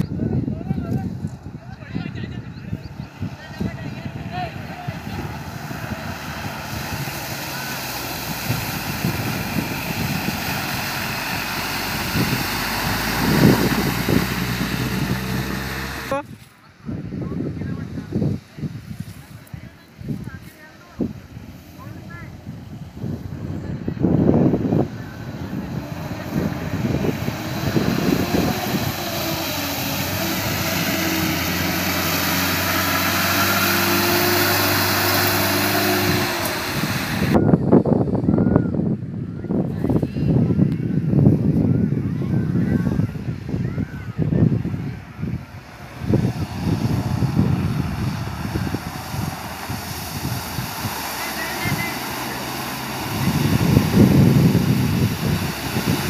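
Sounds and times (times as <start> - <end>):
jeep engine running: 0.0 - 56.0
wheels churning through mud: 2.3 - 38.1, 39.4 - 56.0.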